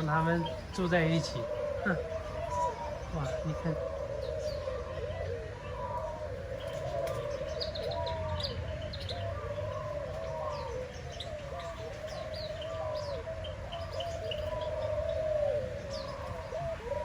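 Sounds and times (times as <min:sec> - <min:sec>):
doves cooing: 0:00.0 - 0:17.0
small birds chirping: 0:00.0 - 0:17.0.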